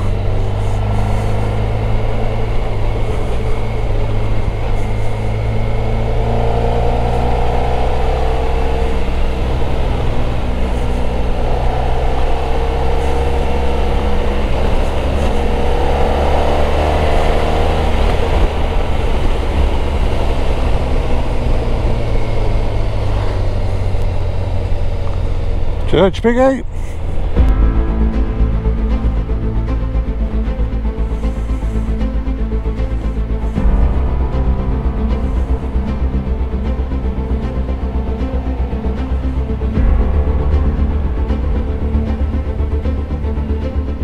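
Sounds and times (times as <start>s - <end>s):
motorcycle engine rumbling: 0.0s - 44.0s.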